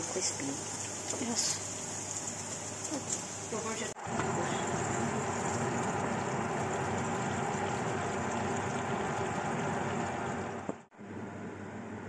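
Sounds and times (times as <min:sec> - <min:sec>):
meat sizzling in a frying pan: 0:00.0 - 0:10.3.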